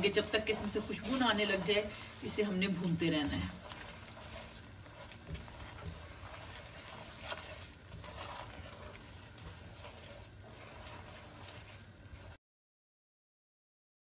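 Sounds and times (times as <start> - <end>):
spatula scraping a wok: 0.0 - 12.4.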